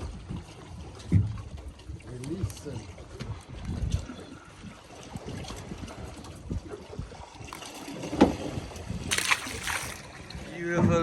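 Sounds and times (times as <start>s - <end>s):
water noise: 0.0s - 11.0s
wind buffeting microphone: 0.0s - 11.0s.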